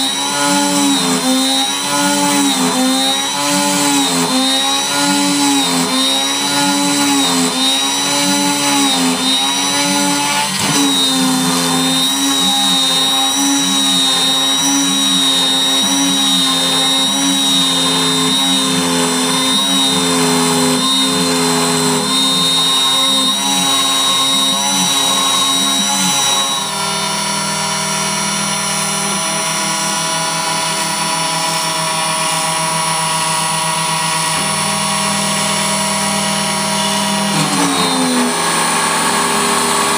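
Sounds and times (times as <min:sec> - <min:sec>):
router spindle whining cutting wood: 0:00.0 - 0:39.9.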